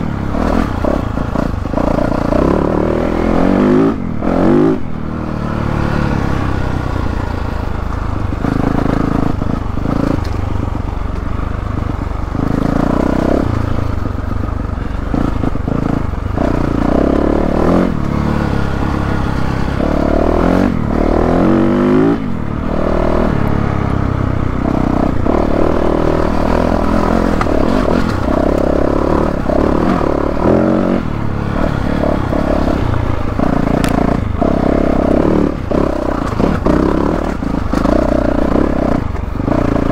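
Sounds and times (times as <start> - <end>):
dirt bike engine revving: 0.0 - 7.6, 11.8 - 14.1, 14.8 - 39.9.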